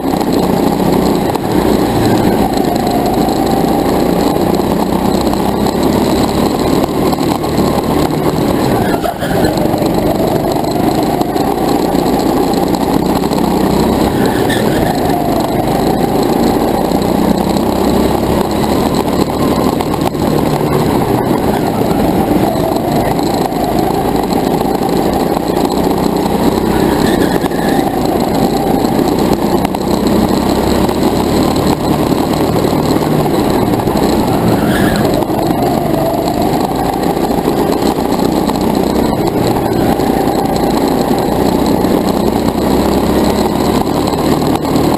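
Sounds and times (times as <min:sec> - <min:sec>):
camera rattling: 0:00.0 - 0:44.9
go-kart engine running hard: 0:00.0 - 0:44.9.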